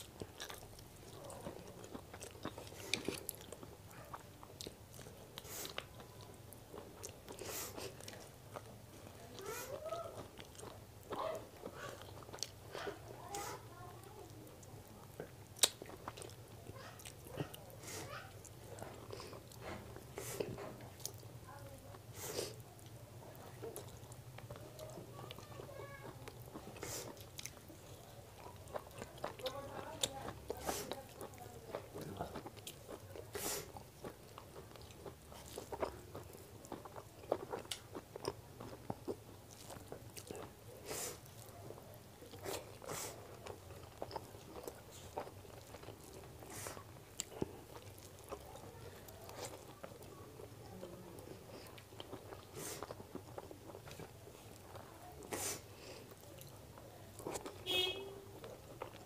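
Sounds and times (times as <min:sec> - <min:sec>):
chewing and lip smacks: 0:00.0 - 0:13.8, 0:14.6 - 0:21.3, 0:22.5 - 0:57.6, 0:58.4 - 0:59.0.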